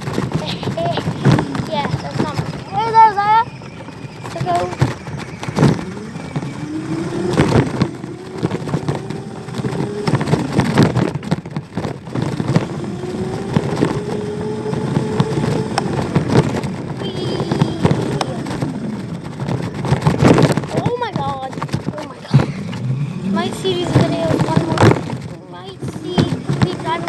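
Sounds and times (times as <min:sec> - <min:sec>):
crackling and knocking: 0:00.0 - 0:27.0
dirt bike engine revving: 0:00.0 - 0:27.0.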